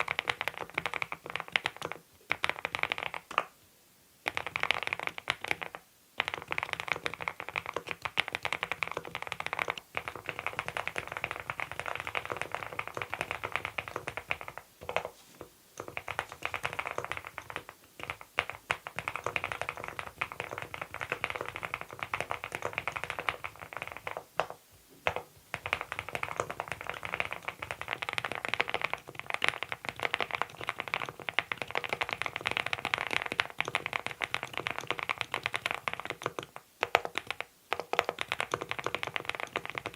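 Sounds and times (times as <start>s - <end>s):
mechanical keyboard typing: 0.0s - 3.4s, 4.2s - 15.1s, 15.8s - 39.9s.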